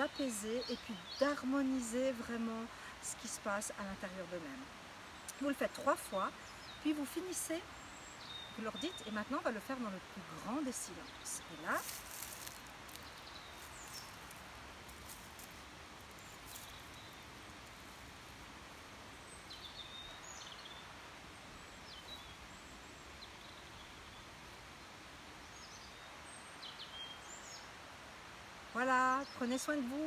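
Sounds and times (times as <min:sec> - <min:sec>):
faint open air hiss: 0:00.0 - 0:30.0.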